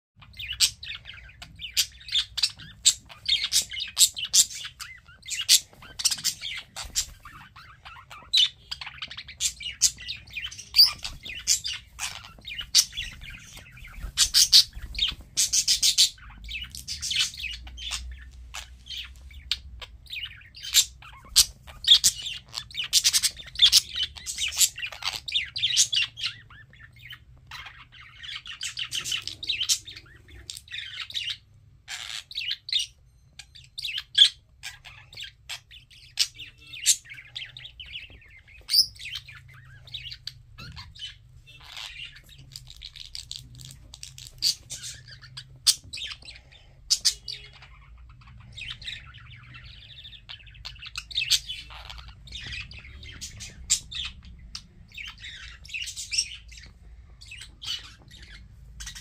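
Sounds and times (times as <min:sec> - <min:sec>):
parakeets chirping: 0:00.2 - 0:59.0.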